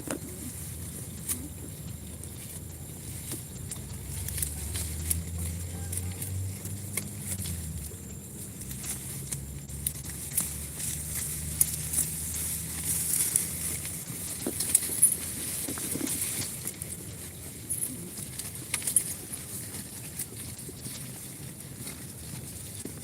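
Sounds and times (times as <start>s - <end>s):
rustling in dry vegetation: 0.0s - 23.0s.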